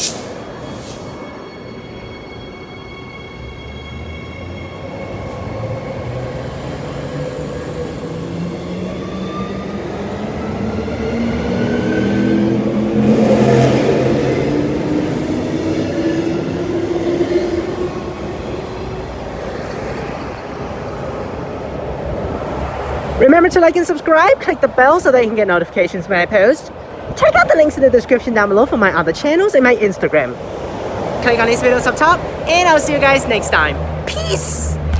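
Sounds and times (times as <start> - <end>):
rush of passing train cars: 0.0 - 34.9.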